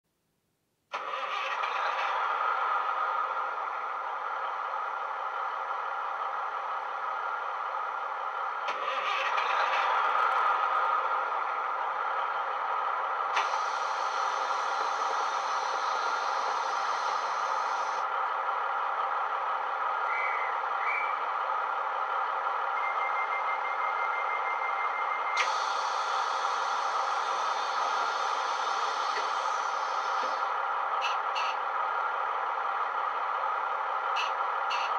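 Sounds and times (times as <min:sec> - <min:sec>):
diesel engine idling through speaker: 0:00.9 - 0:34.9.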